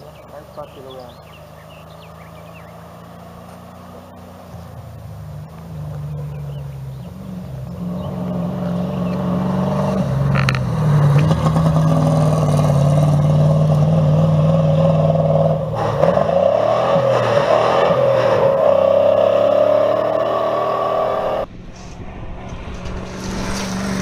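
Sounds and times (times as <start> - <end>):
truck engine running hard: 0.0 - 21.7.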